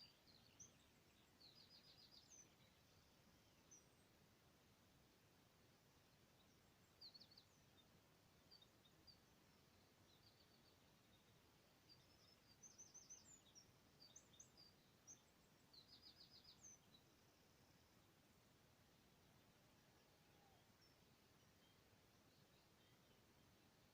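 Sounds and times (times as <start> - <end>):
birds chirping and trilling: 0.0 - 4.0, 6.2 - 18.0, 19.3 - 23.9
low steady hiss: 0.0 - 23.9.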